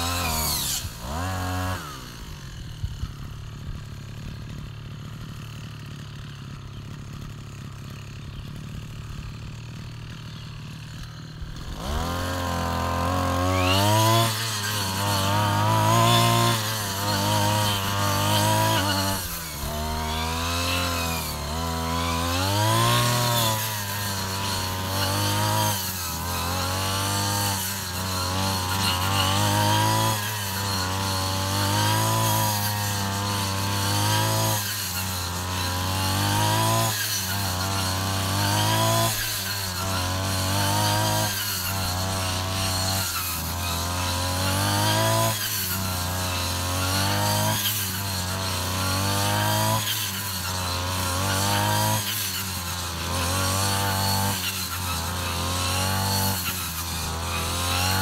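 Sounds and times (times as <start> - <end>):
brush cutter engine revving: 0.0 - 58.0.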